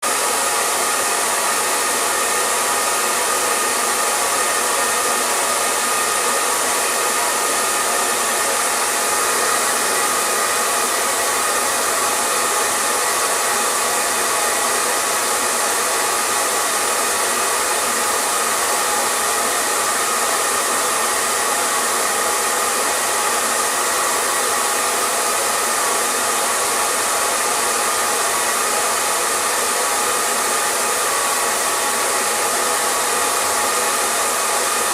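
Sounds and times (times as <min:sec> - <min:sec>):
hair dryer blowing: 0:00.0 - 0:34.9.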